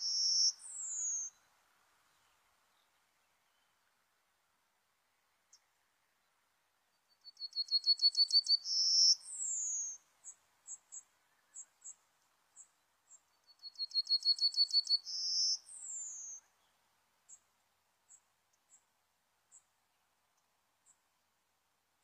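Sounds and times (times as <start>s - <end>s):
bird song: 0.0s - 4.0s, 5.1s - 21.4s.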